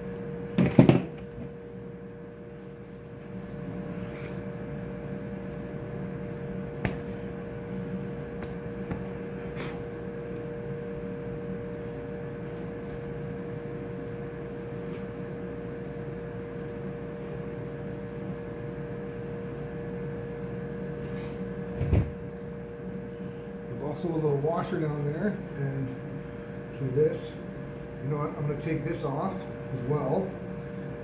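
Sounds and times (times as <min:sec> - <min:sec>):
machinery hum: 0:00.0 - 0:31.0.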